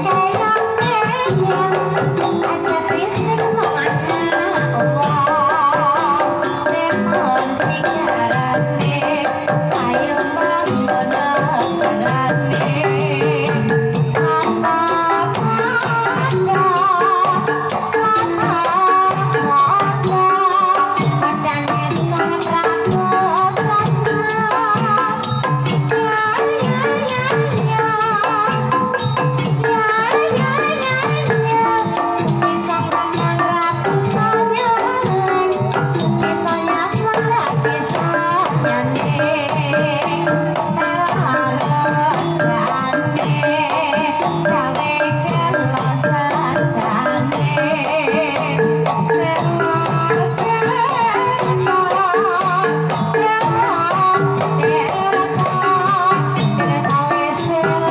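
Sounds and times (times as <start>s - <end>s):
hand drum beats: 0.0s - 57.9s
woman singing: 0.0s - 57.9s.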